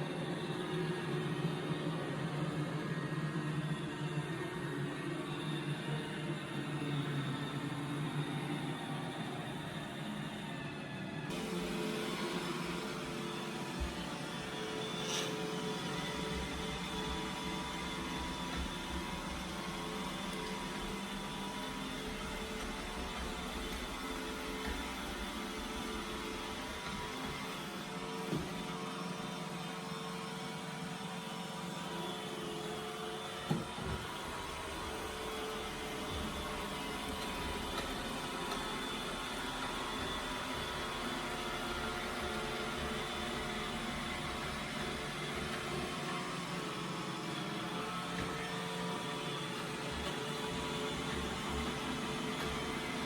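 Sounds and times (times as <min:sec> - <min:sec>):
robot vacuum whirring: 0:00.0 - 0:53.0.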